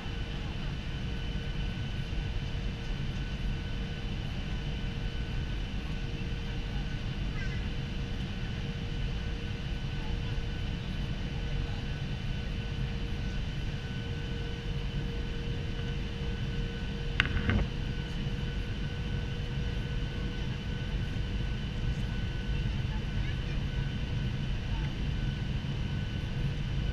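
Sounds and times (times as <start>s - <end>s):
jet engines hum: 0.0s - 26.9s.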